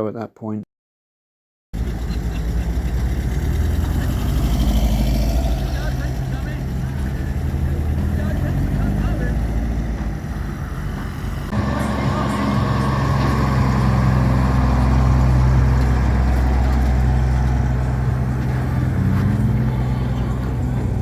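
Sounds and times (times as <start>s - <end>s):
car engines droning: 1.8s - 21.0s.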